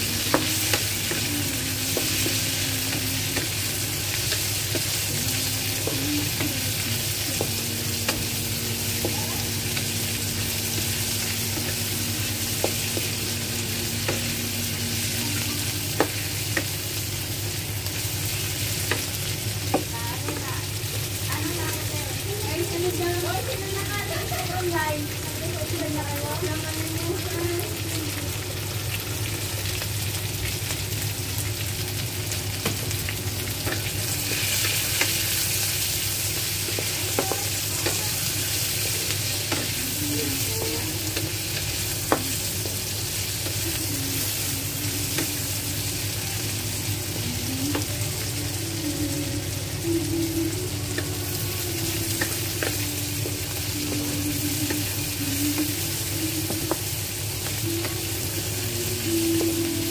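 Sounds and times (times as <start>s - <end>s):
chilies sizzling in hot oil: 0.0s - 59.9s.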